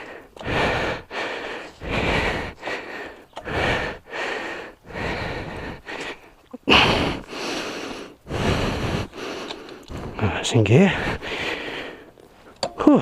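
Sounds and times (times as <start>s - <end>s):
person breathing heavily: 0.0s - 12.6s.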